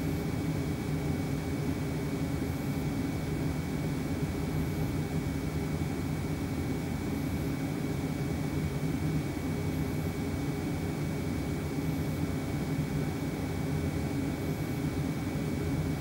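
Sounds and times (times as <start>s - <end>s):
heater blower air rush and hum: 0.0s - 16.0s.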